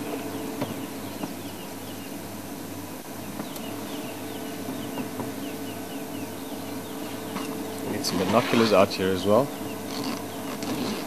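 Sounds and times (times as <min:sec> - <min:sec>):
continuous low hum: 0:00.0 - 0:11.0.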